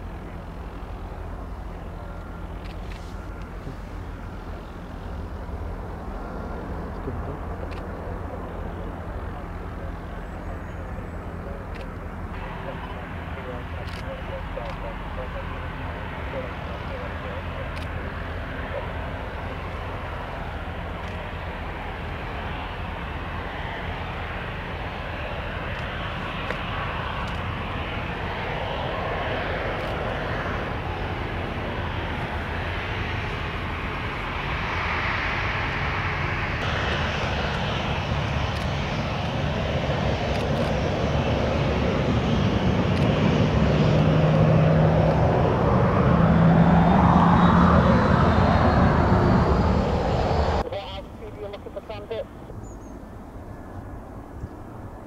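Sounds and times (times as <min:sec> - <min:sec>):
airliner jet engines: 0:00.0 - 0:55.0.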